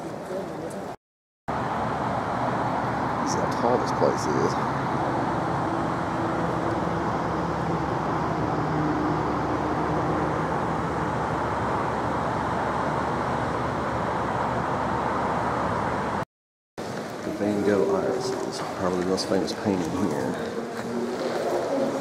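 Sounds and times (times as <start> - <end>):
distant road traffic roar: 0.0 - 16.2, 16.8 - 22.0.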